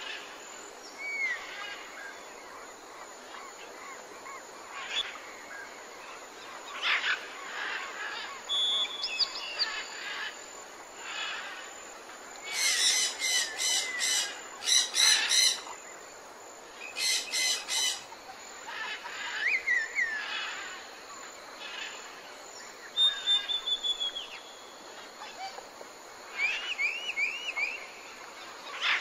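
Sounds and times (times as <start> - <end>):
birds singing and calling: 0.0 - 10.4, 12.4 - 16.0, 16.8 - 21.0, 21.6 - 25.6, 26.2 - 29.0
faint background hiss: 0.0 - 29.0.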